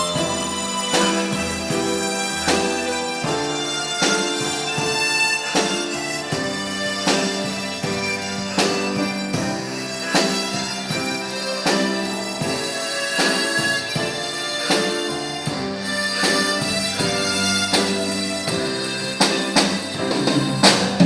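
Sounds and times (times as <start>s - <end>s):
harmonica ensemble playing ballad: 0.0s - 21.0s
steady beat: 0.0s - 21.0s.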